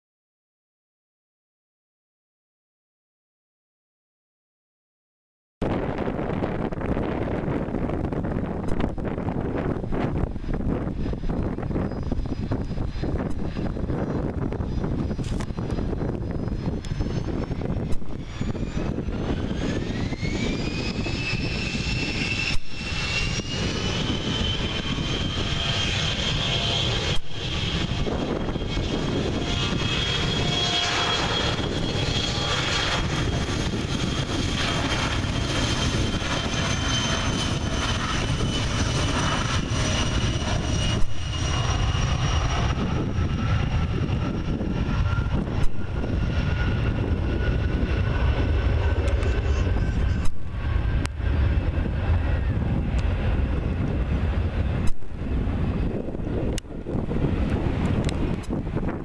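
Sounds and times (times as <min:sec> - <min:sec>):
jet engine rumble: 0:05.6 - 0:59.0
jet engines whining: 0:05.6 - 0:59.0.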